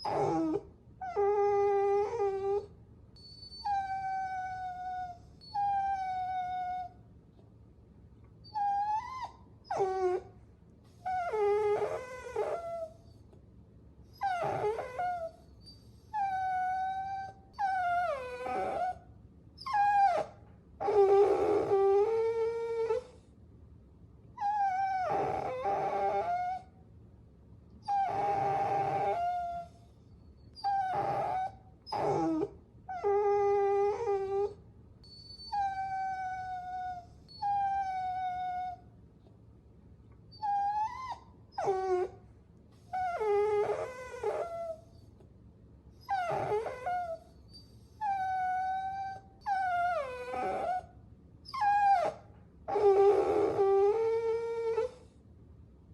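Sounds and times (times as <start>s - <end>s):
puppy whining: 0.0s - 7.0s, 8.3s - 13.4s, 14.0s - 23.3s, 24.4s - 26.8s, 27.8s - 39.3s, 40.1s - 45.3s, 45.9s - 55.2s.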